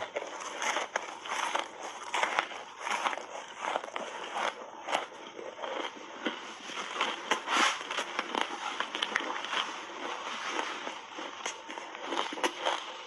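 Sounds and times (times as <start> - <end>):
ice being chewed: 0.0 - 13.0.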